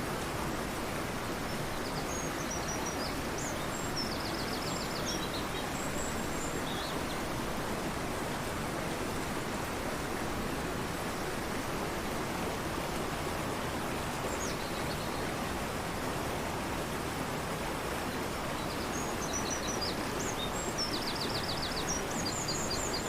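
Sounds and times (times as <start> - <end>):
fast-flowing river rushing: 0.0 - 23.0.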